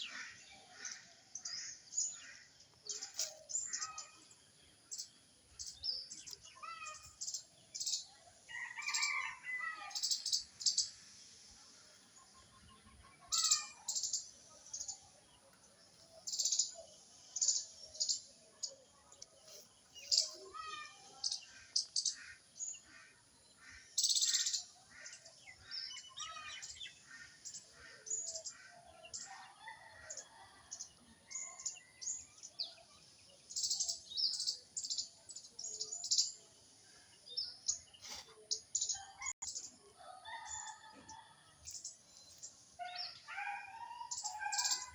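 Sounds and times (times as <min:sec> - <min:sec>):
birds chirping: 0:00.0 - 0:39.8, 0:41.6 - 0:44.9.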